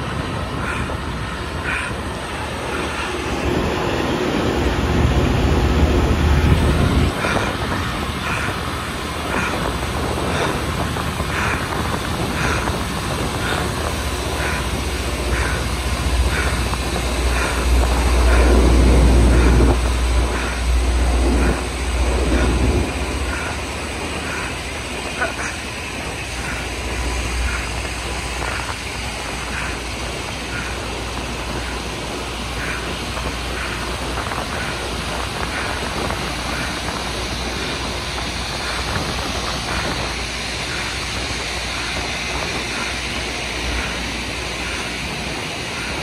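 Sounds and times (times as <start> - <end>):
rail grinder train grinding: 0.0 - 46.0.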